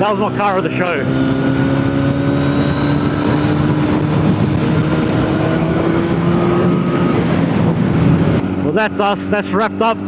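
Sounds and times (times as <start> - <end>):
motorcycle engine running: 0.0 - 10.0
steady rushing noise: 0.2 - 10.0.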